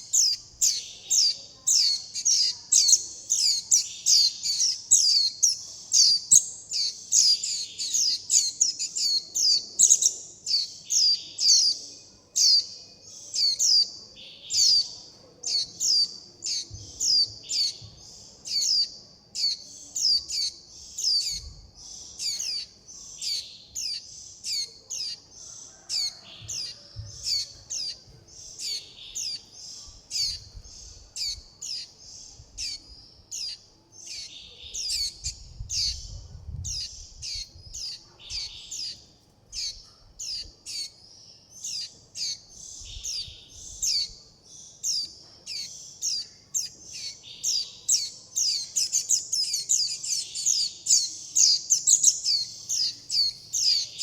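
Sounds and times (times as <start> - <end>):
chicks high-pitched calling: 0.0 - 41.0, 41.6 - 54.0.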